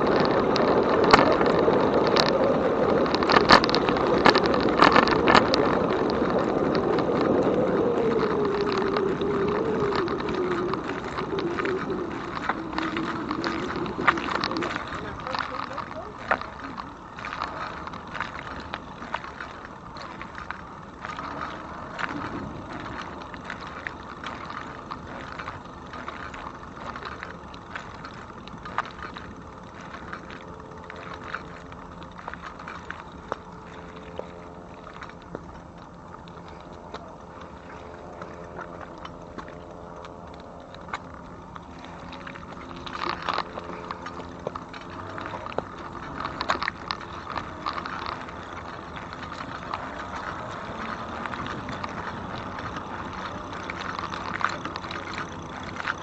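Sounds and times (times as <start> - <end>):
small clicks and rattles: 0.0 - 56.0
steady motor hum: 0.0 - 56.0
tyre noise on trail: 0.0 - 56.0.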